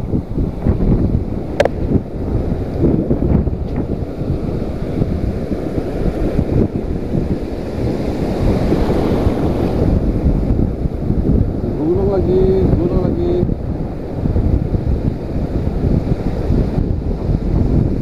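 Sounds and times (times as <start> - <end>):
wind buffeting microphone: 0.0 - 18.0
surf breaking in shallows: 0.4 - 18.0.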